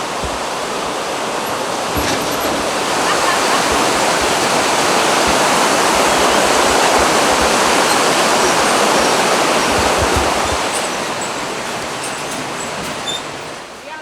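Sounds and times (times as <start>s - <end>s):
rushing mountain stream: 0.0s - 14.0s.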